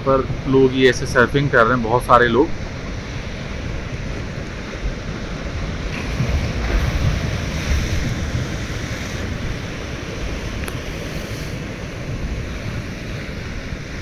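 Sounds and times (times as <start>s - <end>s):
ocean surf breaking: 0.0s - 14.0s
wind rumbling on microphone: 0.0s - 14.0s.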